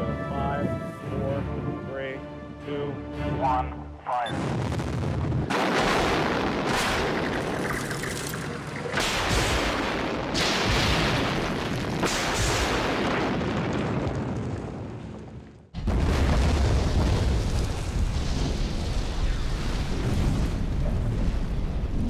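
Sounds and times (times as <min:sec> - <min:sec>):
explosive blasts with rumble: 0:04.3 - 0:22.0.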